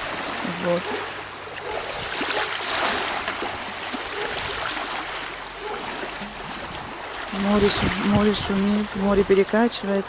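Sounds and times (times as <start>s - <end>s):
sea waves washing on shore: 0.0s - 10.0s.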